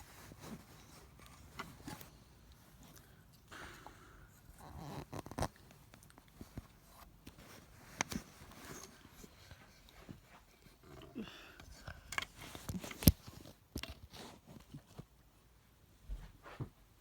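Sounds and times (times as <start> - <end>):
rustling: 0.0 - 3.7, 4.5 - 15.1.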